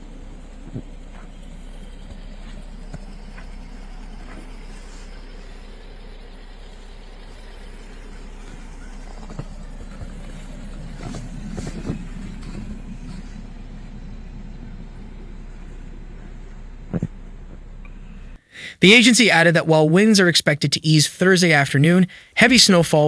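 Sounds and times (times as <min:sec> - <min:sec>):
road vehicle rumble: 0:00.0 - 0:18.5.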